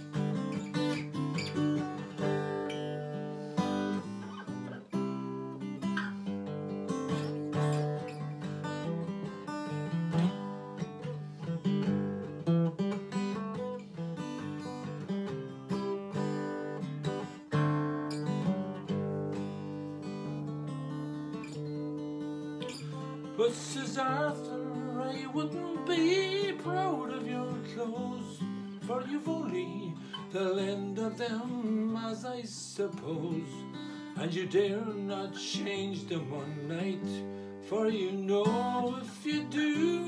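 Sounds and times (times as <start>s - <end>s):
acoustic guitar picking melody: 0.0s - 40.0s.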